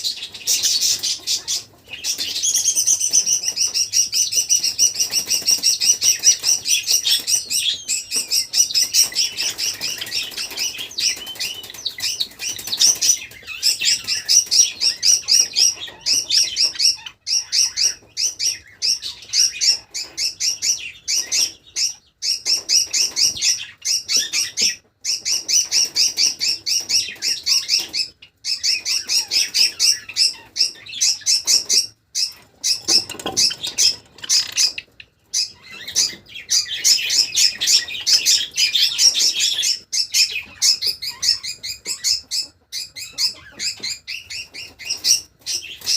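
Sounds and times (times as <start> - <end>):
sparrows chirping: 0.0 - 45.9.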